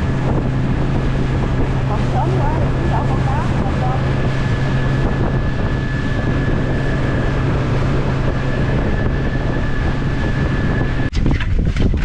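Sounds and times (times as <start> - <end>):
boat wake rushing: 0.0 - 12.0
outboard motor running: 0.0 - 12.0
wind on microphone: 0.0 - 12.0.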